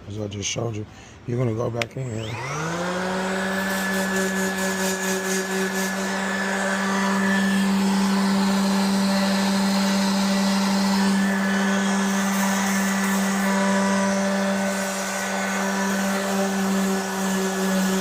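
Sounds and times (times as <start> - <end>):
power sander whining on metal: 2.0 - 18.0.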